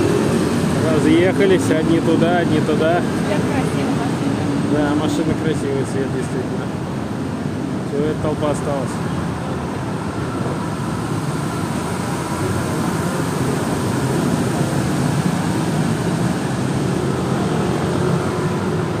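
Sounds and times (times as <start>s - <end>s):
bus passing close by: 0.0s - 19.0s
traffic engines din: 0.0s - 19.0s.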